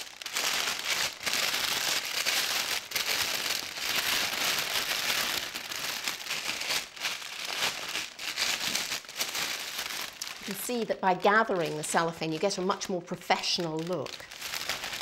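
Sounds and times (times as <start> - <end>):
cellophane bag crinkling: 0.0 - 15.0.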